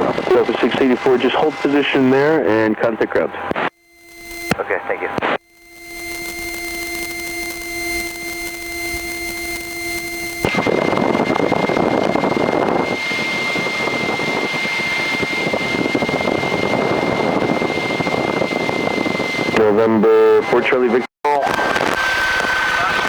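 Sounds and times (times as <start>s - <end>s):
aircraft engine running: 0.0s - 21.0s
steady electronic whine: 0.0s - 23.0s.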